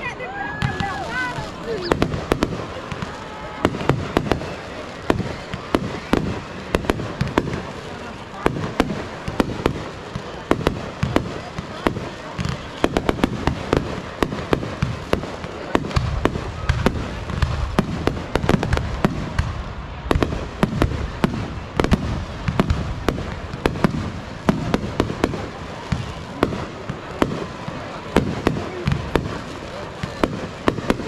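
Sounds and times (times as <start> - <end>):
fireworks cracks and bangs: 0.0 - 31.0.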